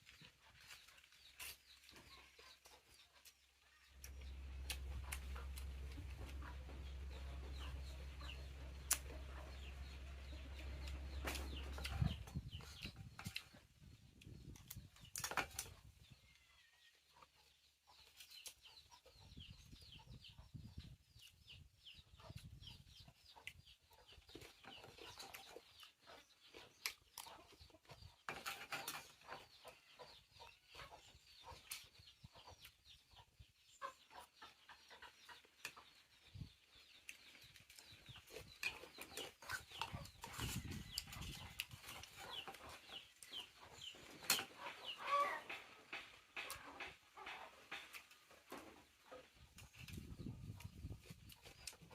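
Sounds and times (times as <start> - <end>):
chickens clucking and peeping: 0.0 - 51.9.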